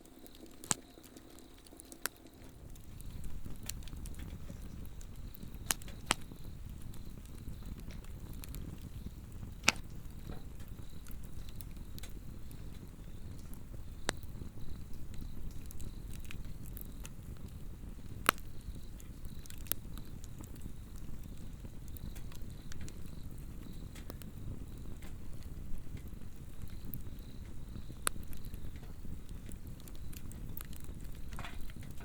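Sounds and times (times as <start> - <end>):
fire burning low rumble: 0.0 - 32.0
fire crackling and popping: 0.0 - 32.0
insects trilling: 0.0 - 32.0.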